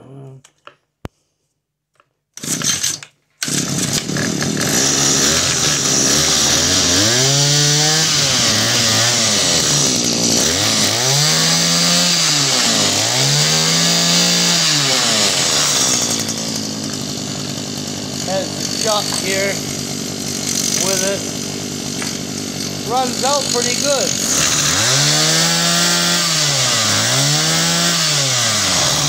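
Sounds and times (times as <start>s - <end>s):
small two-stroke engine revving: 2.4s - 29.0s.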